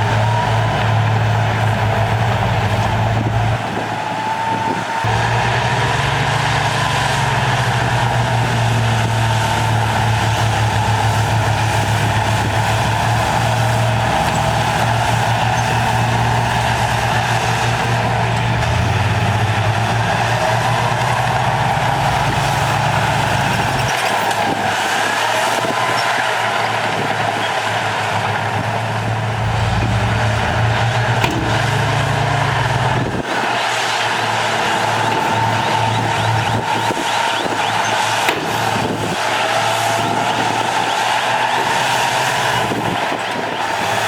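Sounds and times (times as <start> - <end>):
diesel engine rumble: 0.0 - 44.0.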